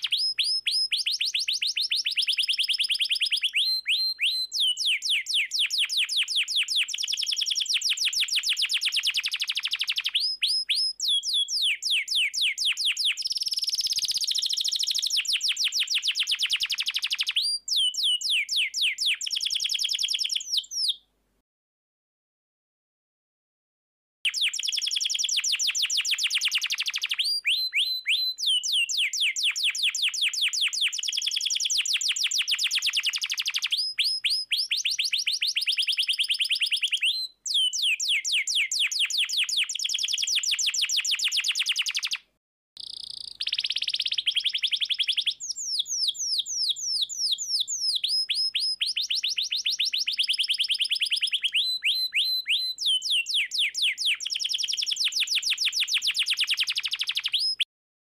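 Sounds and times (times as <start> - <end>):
canary singing trills: 0.0 - 21.0, 24.3 - 57.7.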